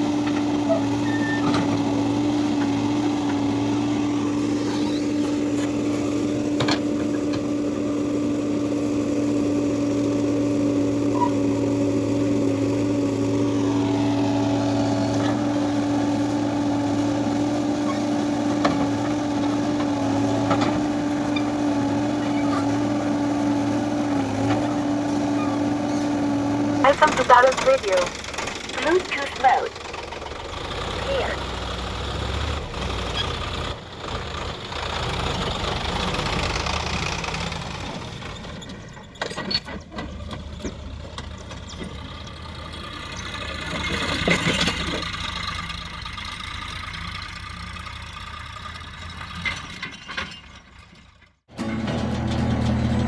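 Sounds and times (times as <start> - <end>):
diesel engine running steadily: 0.0 - 53.0.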